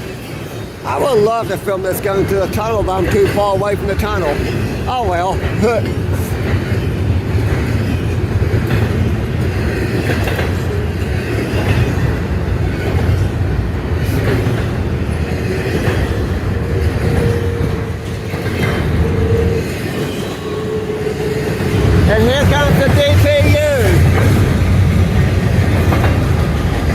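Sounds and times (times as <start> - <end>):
freight train wheels clattering on rails: 0.0 - 26.9.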